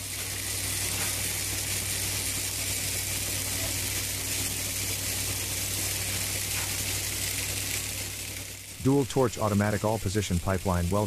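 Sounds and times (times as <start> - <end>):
low electrical hum: 0.0 - 11.0
welding arc sizzling: 0.0 - 11.0.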